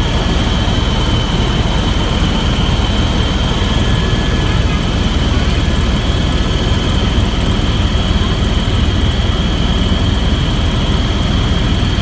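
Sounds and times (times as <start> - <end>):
aircraft engine drone: 0.0 - 12.0
constant high whine: 0.0 - 12.0.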